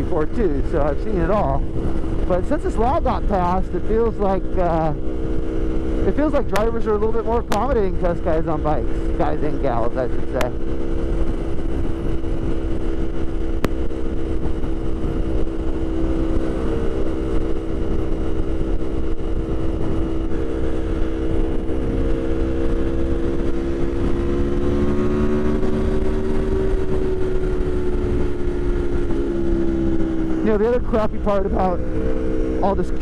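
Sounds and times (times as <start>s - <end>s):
low wind rumble: 0.0s - 33.0s
motorcycle engine cruising: 0.0s - 33.0s.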